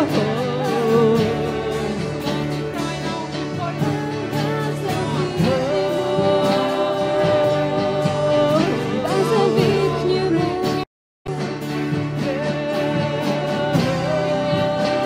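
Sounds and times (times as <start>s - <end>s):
drums: 0.0s - 15.0s
guitar: 0.0s - 15.0s
man singing: 0.0s - 15.0s.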